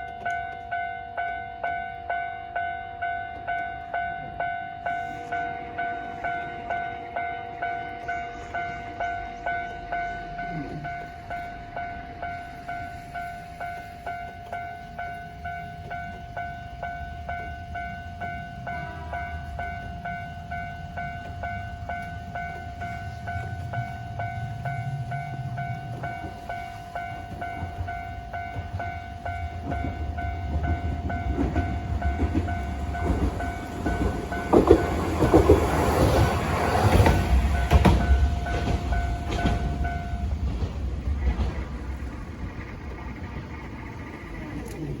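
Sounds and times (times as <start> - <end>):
level-crossing warning bell: 0.0 - 45.0
tram rumbling past: 0.0 - 45.0.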